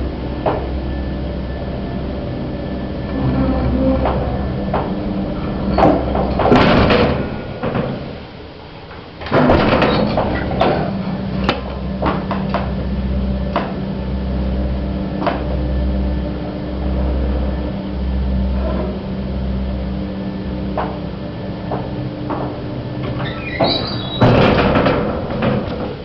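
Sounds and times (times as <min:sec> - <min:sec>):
lift motor hum: 0:00.0 - 0:26.0.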